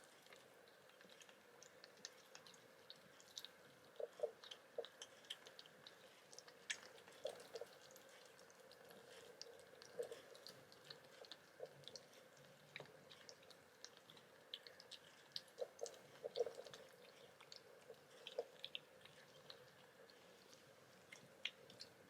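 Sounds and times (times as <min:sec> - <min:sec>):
kitten mouth smacking: 0:00.1 - 0:22.0.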